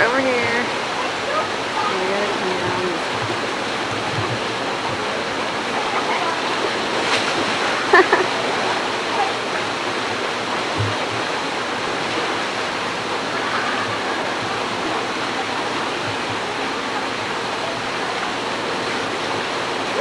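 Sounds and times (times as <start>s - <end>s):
water rushing down a chute: 0.0s - 20.0s
water splashing into pool: 0.3s - 20.0s.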